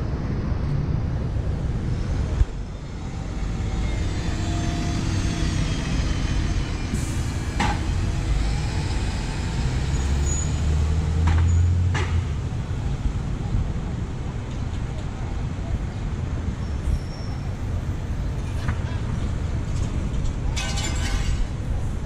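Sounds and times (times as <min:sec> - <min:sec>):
bus engine: 0:00.0 - 0:22.0
street traffic: 0:00.0 - 0:22.0.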